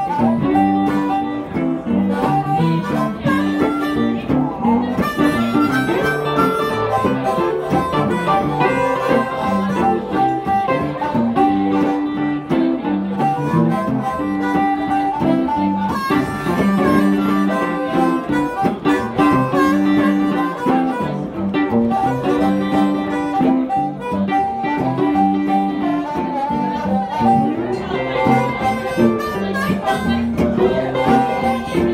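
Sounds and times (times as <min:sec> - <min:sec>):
electric guitars playing a riff: 0:00.0 - 0:31.9
harmonica wailing: 0:00.0 - 0:31.9.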